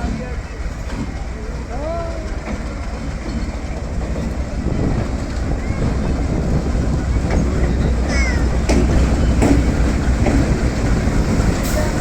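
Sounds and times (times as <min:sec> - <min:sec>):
locomotive engine rumbling: 0:00.0 - 0:12.0
wheels clacking over rail joints: 0:00.0 - 0:12.0.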